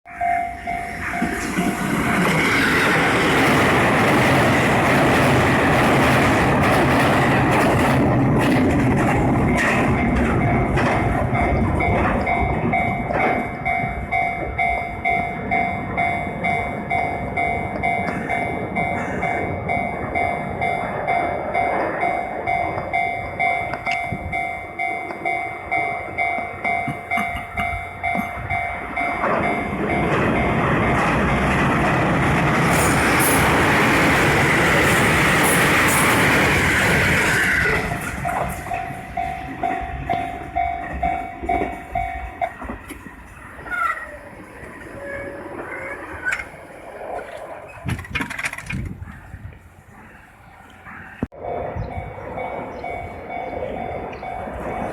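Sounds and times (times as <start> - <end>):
level crossing alarm bell: 0.1 - 7.9, 8.9 - 45.6, 51.3 - 54.9
train rumble and wheel hiss: 0.1 - 54.9.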